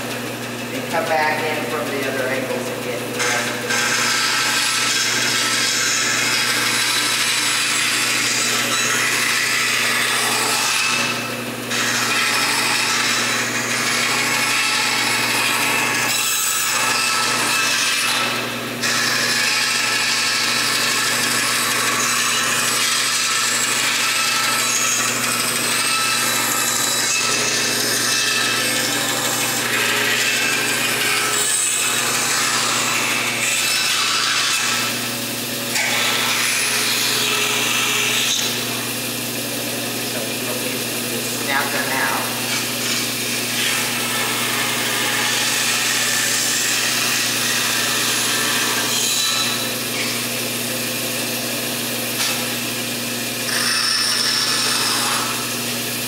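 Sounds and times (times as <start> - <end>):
saw motor hum: 0.0 - 56.0
band saw blade rasping through wood: 0.6 - 56.0.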